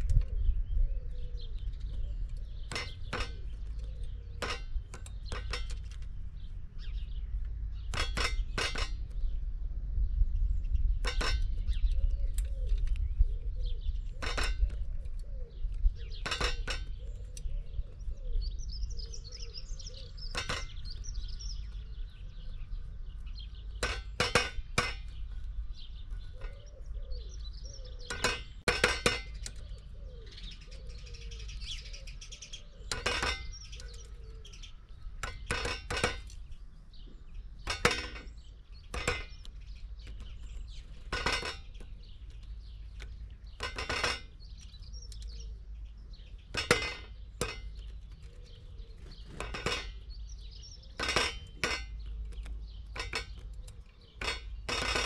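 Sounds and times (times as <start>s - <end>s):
birds chirping faintly: 0.0s - 55.0s.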